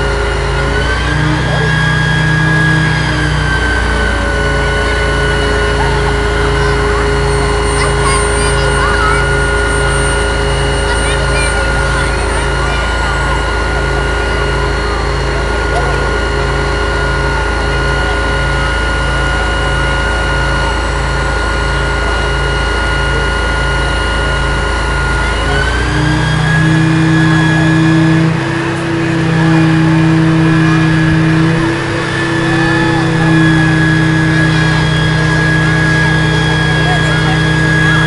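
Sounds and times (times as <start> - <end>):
fire engine diesel engine running: 0.0 - 38.0.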